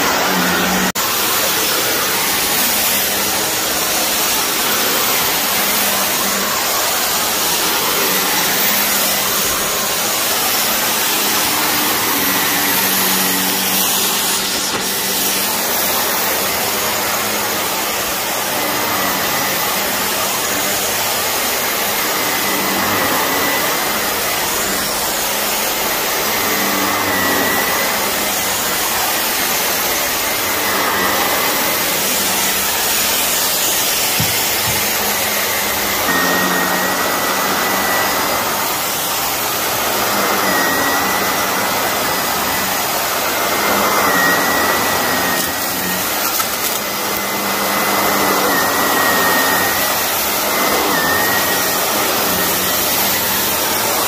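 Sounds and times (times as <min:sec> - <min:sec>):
vacuum cleaner whining: 0:00.0 - 0:54.0.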